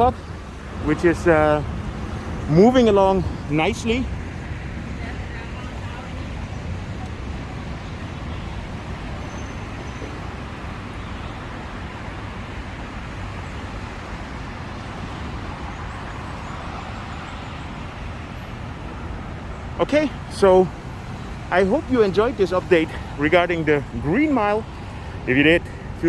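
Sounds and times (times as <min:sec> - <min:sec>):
city road traffic hum: 0:00.0 - 0:26.0.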